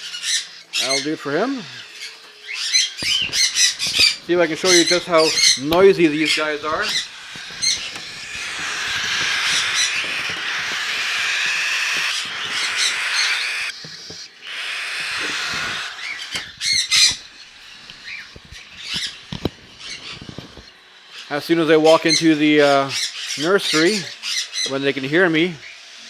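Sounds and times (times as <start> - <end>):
chicks screaming to be fed: 2.6 - 13.8, 14.4 - 26.0.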